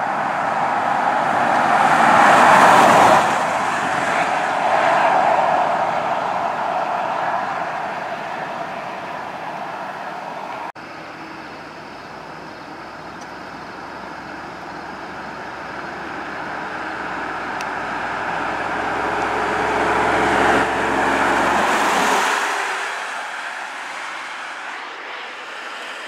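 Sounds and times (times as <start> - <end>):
truck engines approaching: 0.0 - 26.0.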